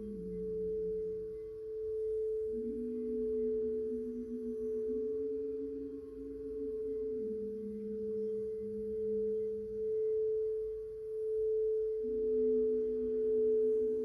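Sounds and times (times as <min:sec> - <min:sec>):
singing bowls ringing: 0:00.0 - 0:14.0.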